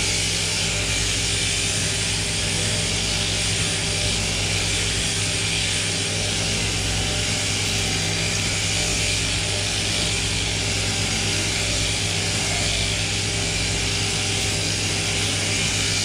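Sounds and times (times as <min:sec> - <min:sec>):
cutter hissing: 0:00.0 - 0:16.0
shearing machine humming: 0:00.0 - 0:16.0.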